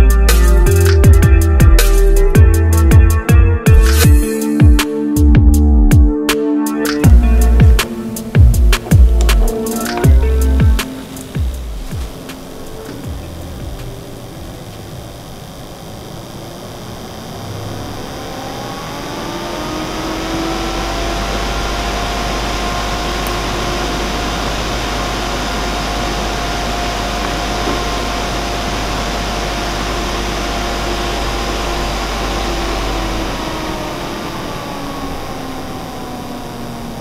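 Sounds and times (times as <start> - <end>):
cooling fan whining: 0.0 - 37.0.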